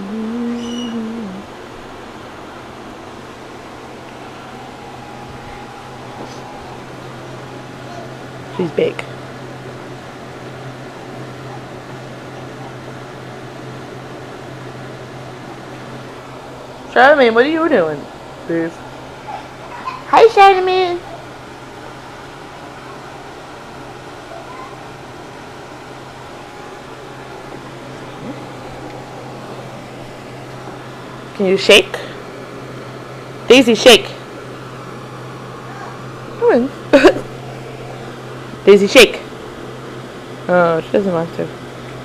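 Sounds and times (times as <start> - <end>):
room noise hiss: 0.0 - 42.0.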